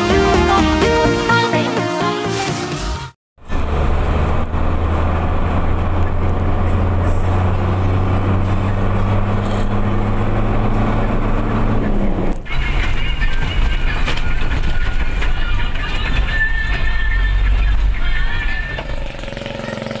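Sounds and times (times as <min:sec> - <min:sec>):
road noise: 0:00.0 - 0:20.0
truck engine running: 0:03.4 - 0:20.0.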